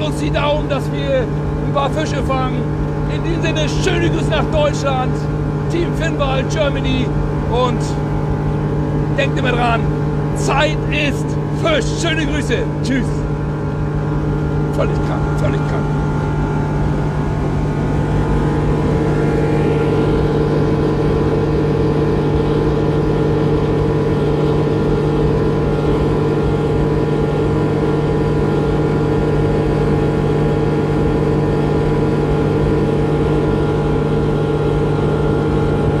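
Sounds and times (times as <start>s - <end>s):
outboard engine drone: 0.0s - 36.0s.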